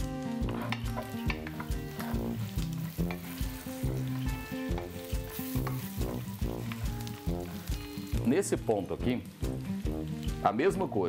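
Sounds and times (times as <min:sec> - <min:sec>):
background music with beat: 0:00.0 - 0:10.9
meat sizzling in a pot: 0:00.0 - 0:11.0.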